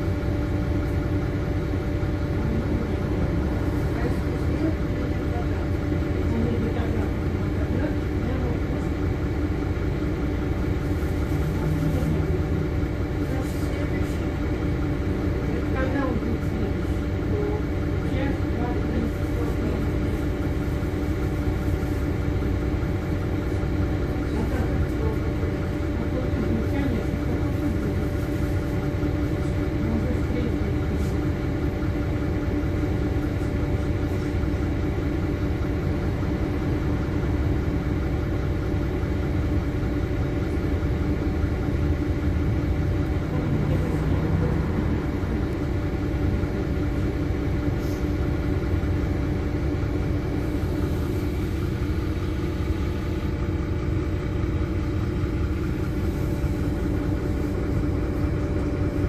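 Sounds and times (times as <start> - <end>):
bus diesel engine idling: 0.0 - 59.0.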